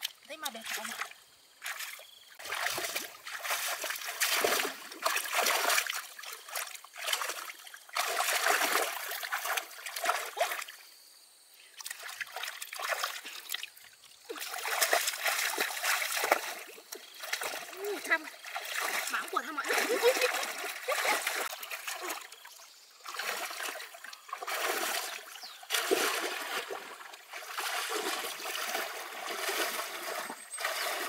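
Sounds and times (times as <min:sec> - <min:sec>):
water splashing and trickling: 0:00.0 - 0:10.9, 0:11.6 - 0:31.0.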